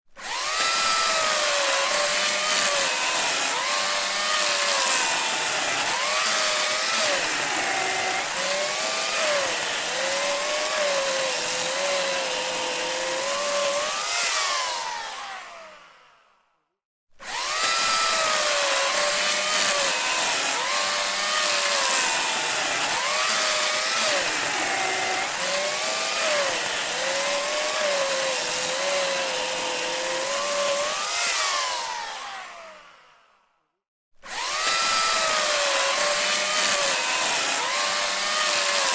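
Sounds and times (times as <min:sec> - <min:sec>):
electric saw cutting wood: 0:00.0 - 0:16.4, 0:17.2 - 0:33.4, 0:34.2 - 0:38.9.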